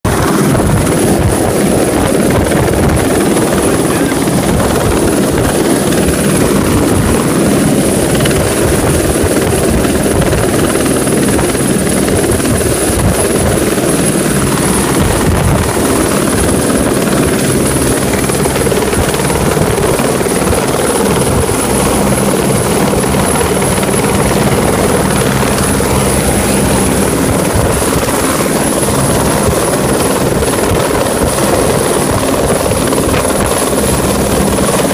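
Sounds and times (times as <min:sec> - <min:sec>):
helicopter rotor chopping: 0:00.1 - 0:34.9.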